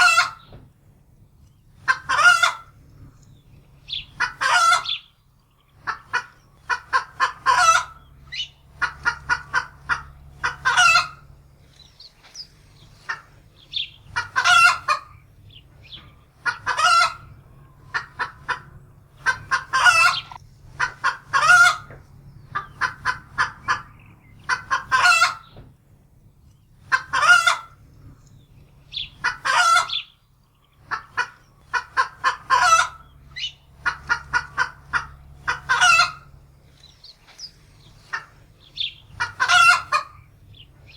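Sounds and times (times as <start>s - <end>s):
hen cackling in alarm: 0.0s - 0.5s, 1.8s - 2.8s, 3.9s - 5.1s, 5.8s - 11.4s, 12.4s - 25.6s, 26.8s - 27.8s, 28.9s - 30.2s, 30.8s - 36.4s, 37.4s - 40.9s.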